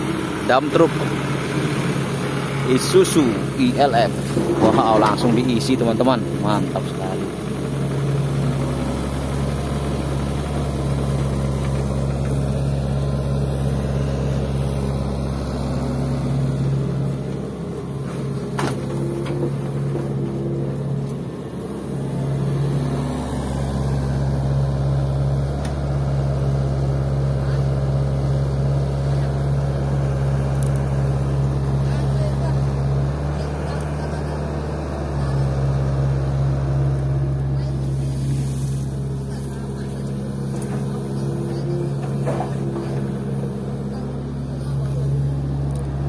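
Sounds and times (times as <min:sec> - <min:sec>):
diesel engines running: 0:00.0 - 0:46.0
excavator whine: 0:00.0 - 0:46.0.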